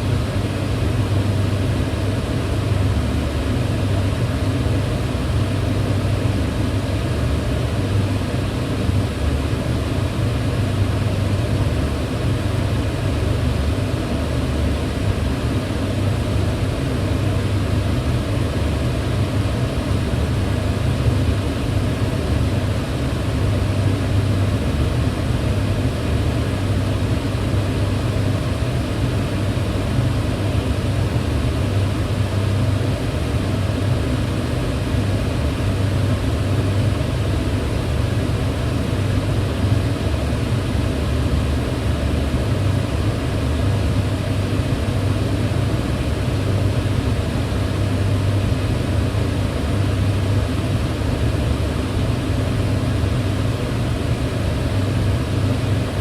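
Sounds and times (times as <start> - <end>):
range hood fan whooshing: 0.0 - 56.0.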